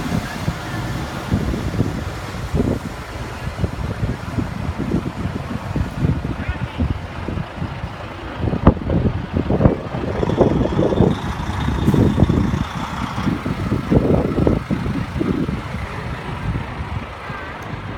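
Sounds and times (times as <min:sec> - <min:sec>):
truck diesel engine rumbling: 0:00.0 - 0:17.9.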